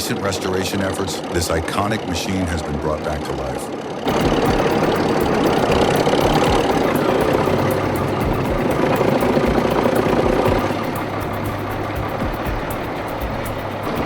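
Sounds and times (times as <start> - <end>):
locomotive diesel engine running: 0.0 - 14.0.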